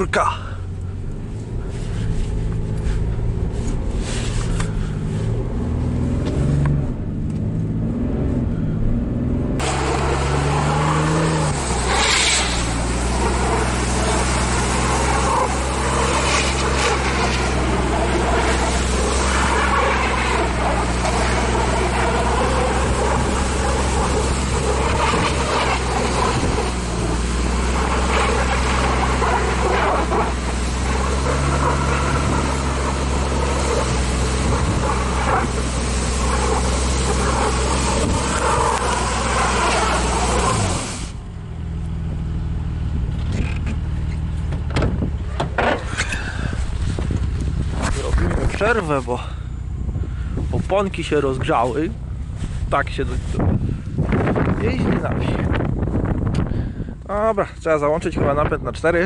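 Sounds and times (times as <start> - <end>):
car engine pulling under load: 0.0 - 57.9
tyres churning snow: 0.0 - 59.0.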